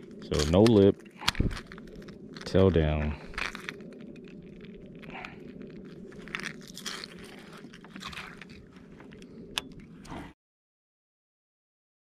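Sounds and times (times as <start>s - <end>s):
fishing lure handling noise: 0.0s - 10.2s
low rumble: 0.0s - 10.4s.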